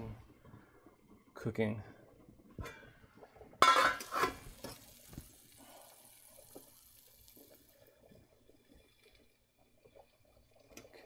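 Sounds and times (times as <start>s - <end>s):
boiling water bubbling: 0.0s - 11.0s.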